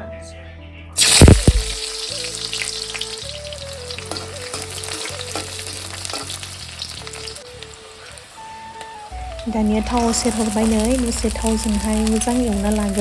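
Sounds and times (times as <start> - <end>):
soft background music: 0.0 - 13.0
food sizzling in hot oil: 1.0 - 13.0.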